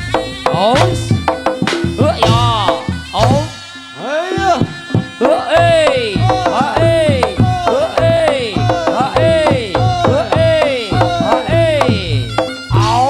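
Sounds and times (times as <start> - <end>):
steady drum beat: 0.0 - 3.6, 4.4 - 13.0.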